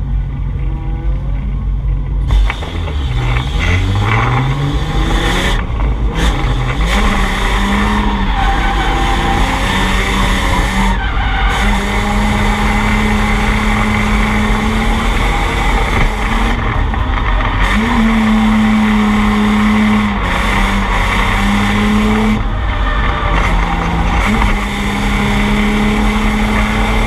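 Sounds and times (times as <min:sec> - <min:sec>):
car engine at high revs: 0:00.0 - 0:27.0
tires skidding: 0:02.3 - 0:27.0.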